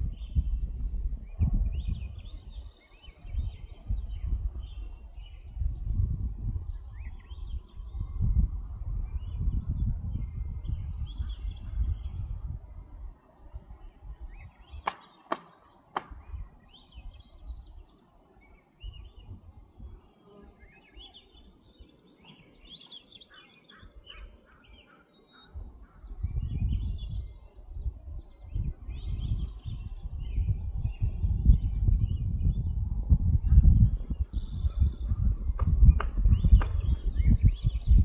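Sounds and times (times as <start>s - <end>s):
wind rumbling on microphone: 0.0s - 24.8s, 25.4s - 38.0s
small birds chirping: 0.0s - 38.0s.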